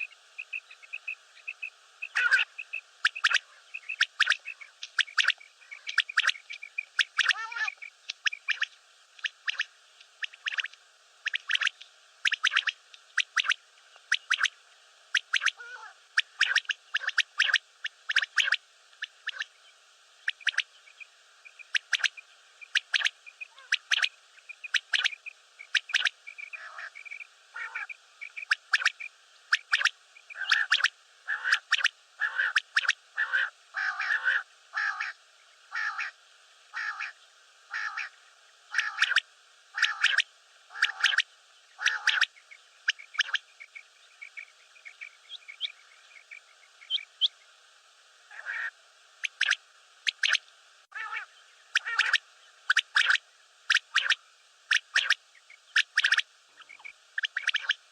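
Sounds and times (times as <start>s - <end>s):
quail calling: 0.0s - 19.5s, 20.2s - 20.7s, 21.5s - 42.3s, 42.9s - 43.4s, 48.3s - 57.8s.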